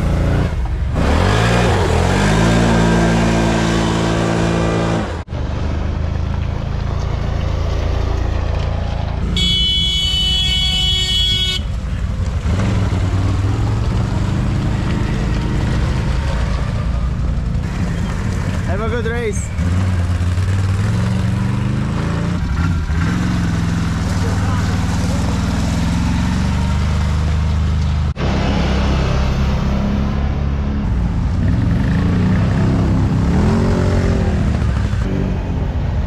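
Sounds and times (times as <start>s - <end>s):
atv engines revving: 0.0s - 36.0s.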